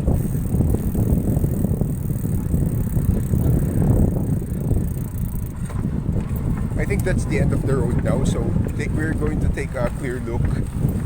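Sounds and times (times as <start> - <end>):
mountain bike tyre and frame rumble: 0.0 - 11.0
wind on microphone: 0.0 - 11.0.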